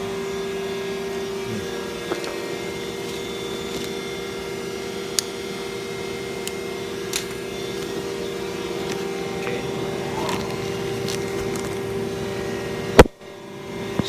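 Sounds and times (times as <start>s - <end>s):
melting machine humming: 0.0s - 14.0s.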